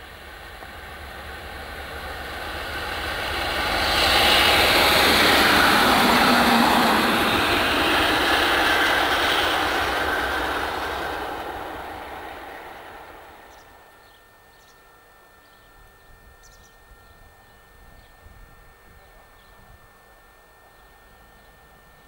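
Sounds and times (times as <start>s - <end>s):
train running: 0.0s - 22.0s.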